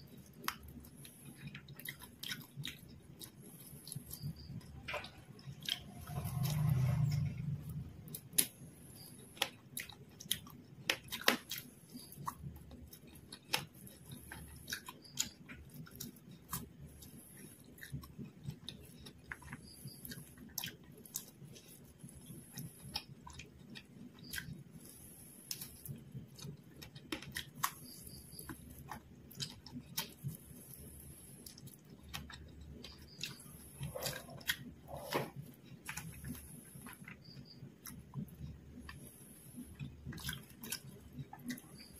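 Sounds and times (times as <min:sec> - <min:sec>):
chewing and mouth sounds: 0:00.0 - 0:41.9.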